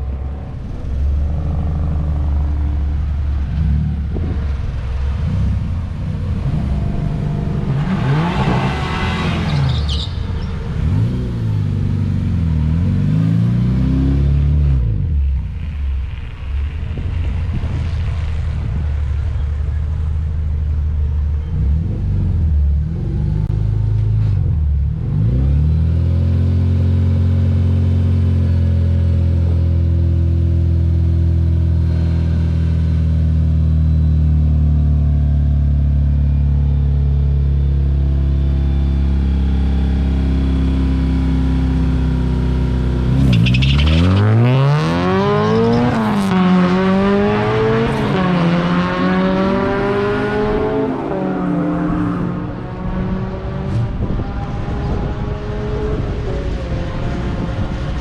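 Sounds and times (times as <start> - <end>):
car engine running and revving: 0.0 - 58.0.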